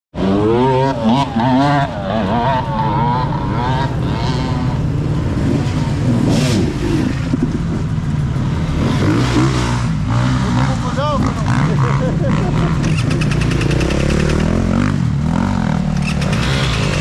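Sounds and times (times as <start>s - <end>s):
motorcycle engines revving: 0.1s - 17.0s.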